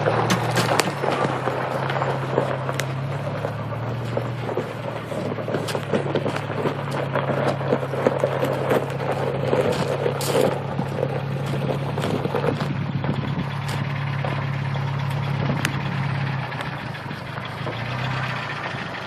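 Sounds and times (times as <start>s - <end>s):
gravel crackling under tyres: 0.0s - 19.0s
truck engine running at low revs: 0.0s - 19.0s.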